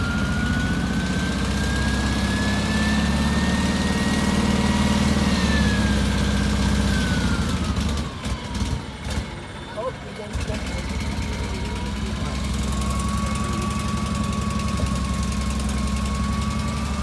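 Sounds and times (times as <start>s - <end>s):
piston aircraft engine running: 0.0s - 17.0s
thin engine whine: 0.0s - 17.0s.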